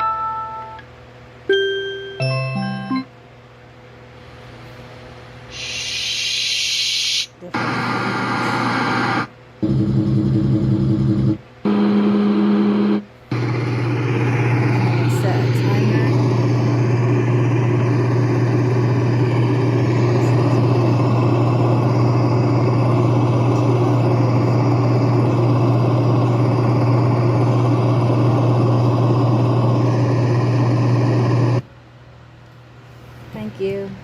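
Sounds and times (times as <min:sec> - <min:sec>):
white noise machine with deep hum: 0:00.0 - 0:34.0.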